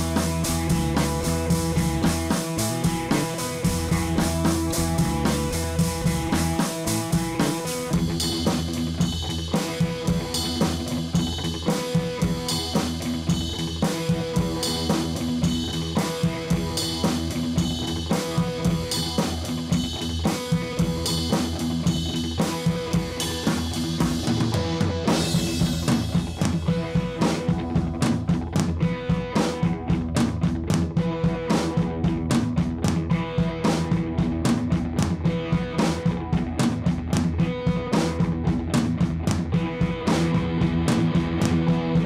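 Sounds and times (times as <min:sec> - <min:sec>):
background music with drum beat: 0:00.0 - 0:42.0.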